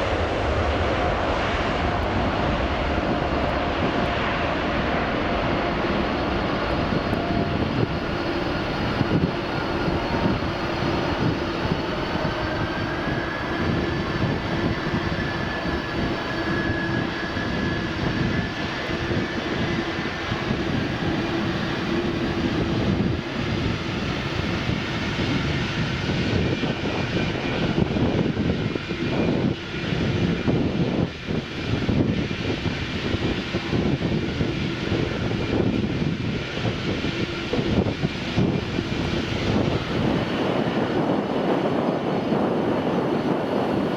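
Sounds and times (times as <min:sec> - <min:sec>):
jet engines rumbling: 0:00.0 - 0:43.9
steady whining tones: 0:00.0 - 0:43.9.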